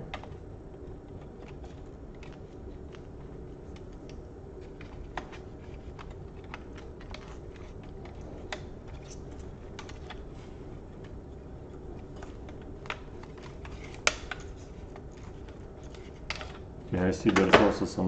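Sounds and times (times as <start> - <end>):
laptop parts clicking: 0.0 - 17.6.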